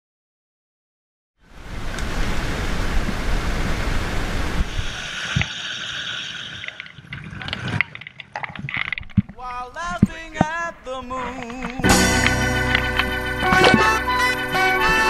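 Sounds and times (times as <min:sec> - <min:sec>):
rushing wind and water: 0:01.4 - 0:11.8, 0:12.8 - 0:15.0.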